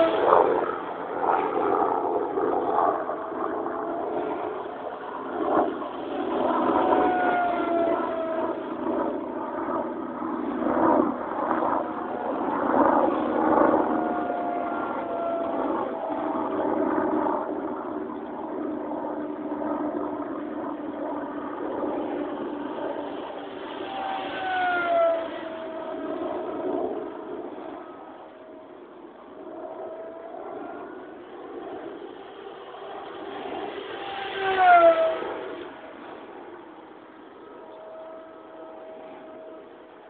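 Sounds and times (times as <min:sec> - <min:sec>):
model plane motor whining: 0:00.0 - 0:40.0
steady rushing noise: 0:00.0 - 0:40.0.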